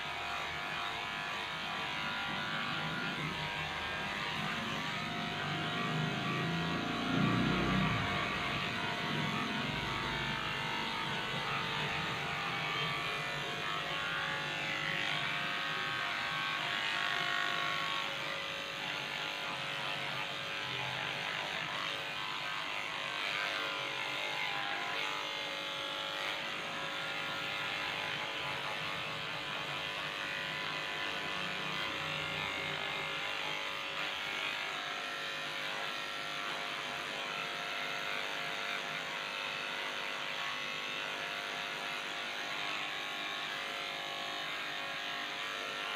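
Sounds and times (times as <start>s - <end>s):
electric hair clipper running: 0.0s - 45.9s.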